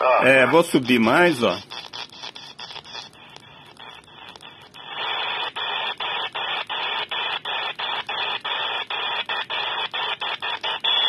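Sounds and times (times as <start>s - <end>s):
radio receiver static hiss: 0.2s - 11.0s.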